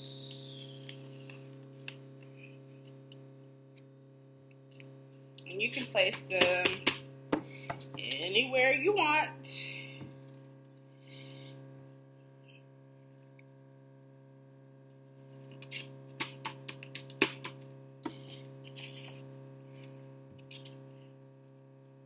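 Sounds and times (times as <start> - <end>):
refrigerator humming: 0.0 - 22.0.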